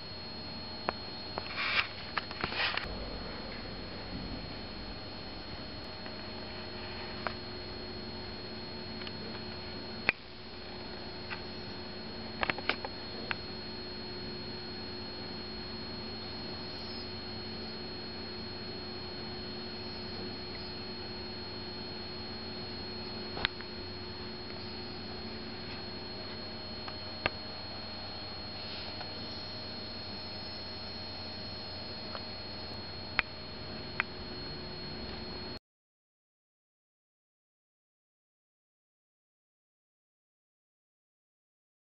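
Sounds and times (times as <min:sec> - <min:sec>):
electrical hum: 0:00.0 - 0:35.6
high whine: 0:00.0 - 0:35.6.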